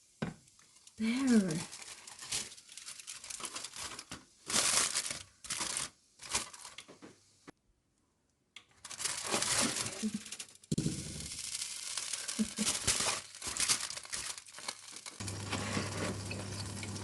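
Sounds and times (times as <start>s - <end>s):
aluminium foil crinkling: 0.5s - 6.9s, 8.7s - 17.0s.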